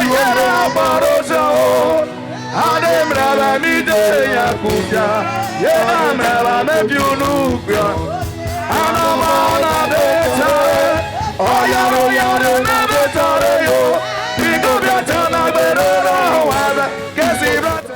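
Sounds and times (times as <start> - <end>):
man singing: 0.0 - 17.9
sustained instrumental backing: 0.0 - 17.9.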